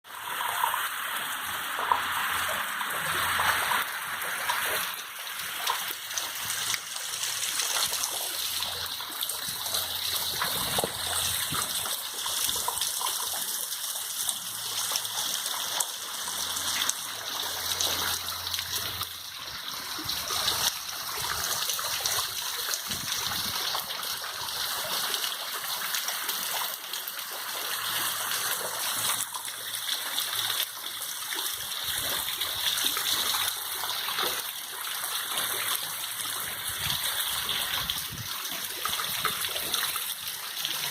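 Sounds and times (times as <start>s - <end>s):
steady rain falling: 0.1s - 40.9s.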